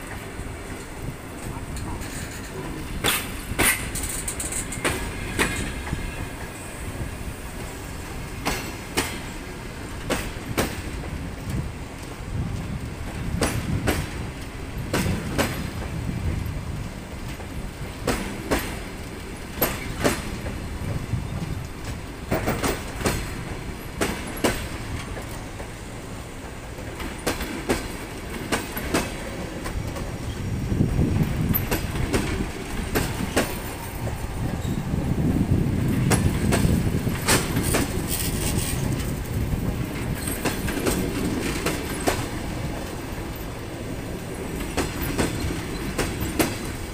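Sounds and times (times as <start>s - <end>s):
wheels clacking over rail joints: 0.0s - 6.8s, 7.6s - 46.9s
train wheels rumbling: 0.0s - 46.9s.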